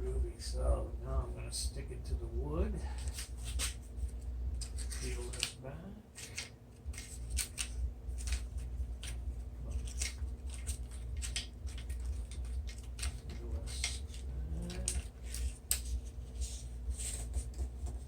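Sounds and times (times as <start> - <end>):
low hum: 0.0 - 18.0
backing paper peeling: 2.9 - 5.6, 6.2 - 18.0.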